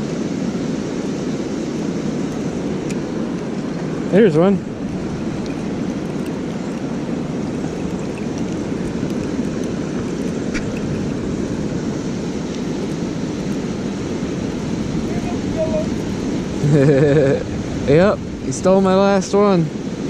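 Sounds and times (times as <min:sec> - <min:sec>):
water rushing over a dam: 0:00.0 - 0:20.0.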